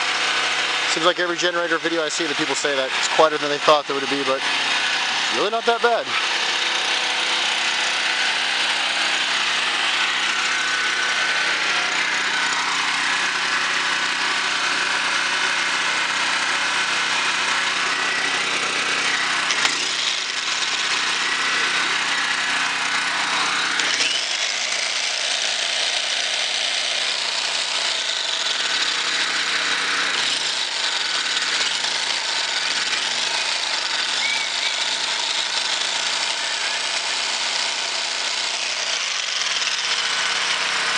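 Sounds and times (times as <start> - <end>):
generator engine running: 0.0 - 40.9.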